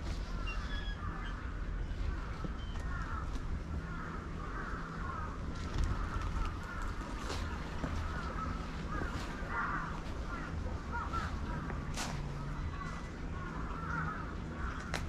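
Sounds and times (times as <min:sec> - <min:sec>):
birds calling: 0:00.0 - 0:15.0
low background rumble: 0:00.0 - 0:15.0.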